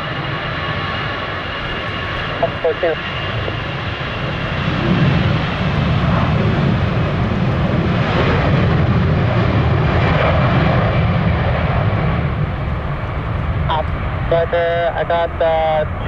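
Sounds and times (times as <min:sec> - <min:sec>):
jet engines roaring: 0:00.0 - 0:16.0
low buffeting rumble: 0:00.0 - 0:16.0.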